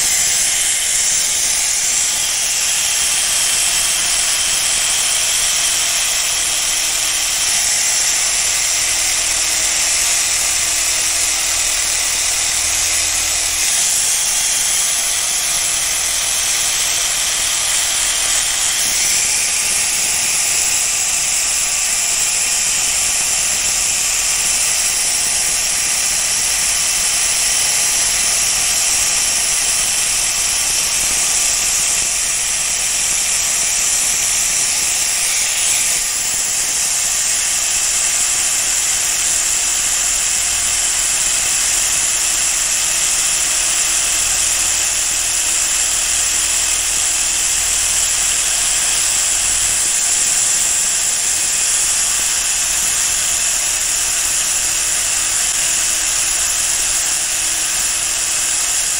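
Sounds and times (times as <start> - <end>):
power sander grinding steel: 0.0 - 58.9.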